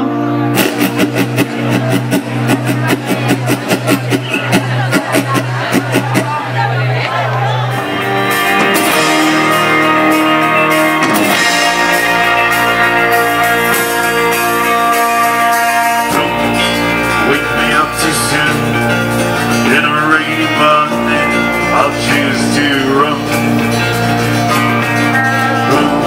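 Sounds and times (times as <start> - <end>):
electric guitar: 0.0 - 26.0
live band playing: 0.0 - 26.0.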